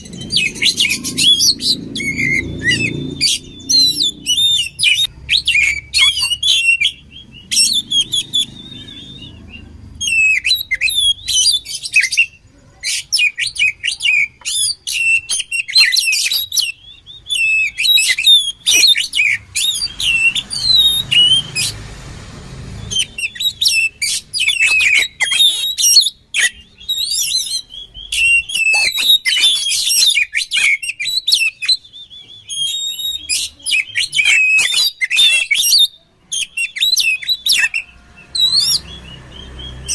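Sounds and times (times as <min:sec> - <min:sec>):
magpie-robin singing: 0:00.0 - 0:21.8, 0:22.7 - 0:39.9.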